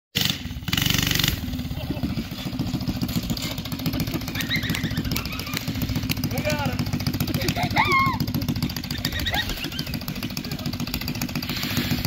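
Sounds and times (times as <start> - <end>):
small motorbike engine running: 0.2 - 12.0.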